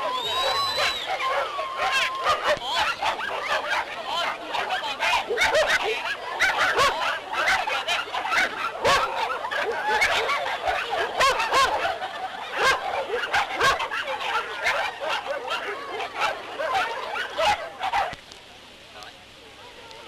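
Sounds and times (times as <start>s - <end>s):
dogs barking: 0.0s - 18.2s
crowd chatter: 0.0s - 20.0s.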